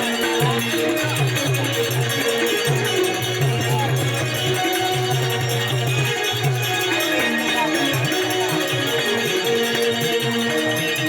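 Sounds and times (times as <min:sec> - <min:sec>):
folk band instrumental music: 0:00.0 - 0:11.0.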